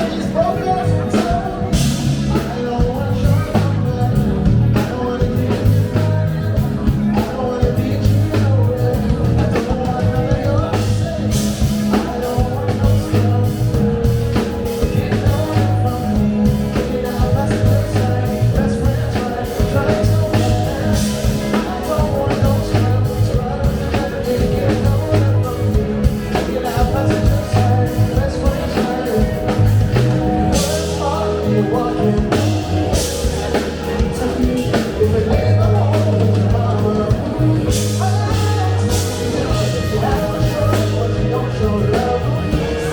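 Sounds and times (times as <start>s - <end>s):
live funk band playing: 0.0s - 42.9s
person singing: 0.0s - 42.9s.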